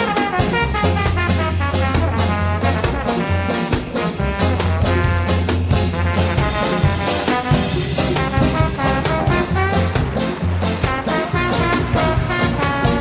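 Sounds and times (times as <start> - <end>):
background music with beat and bass: 0.0 - 13.0.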